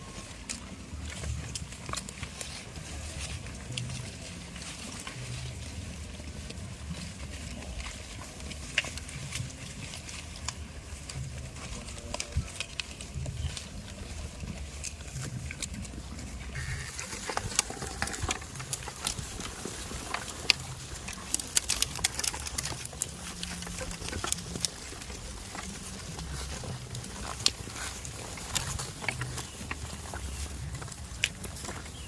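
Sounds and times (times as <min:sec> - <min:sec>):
goats moving about: 0:00.0 - 0:32.0.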